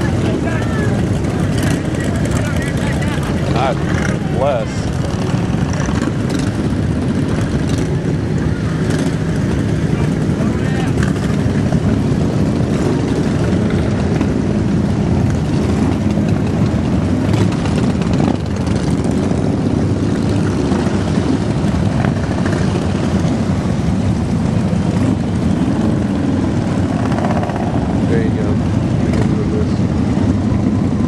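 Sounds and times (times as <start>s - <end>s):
motorcycle engines rumbling: 0.0s - 31.0s.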